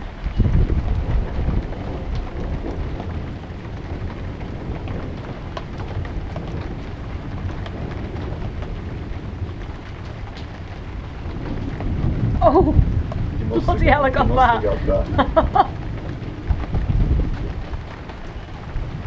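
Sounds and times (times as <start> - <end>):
low rumble of thunder: 0.0 - 19.0
rain hiss: 0.0 - 19.0
raindrop ticks: 0.0 - 19.0.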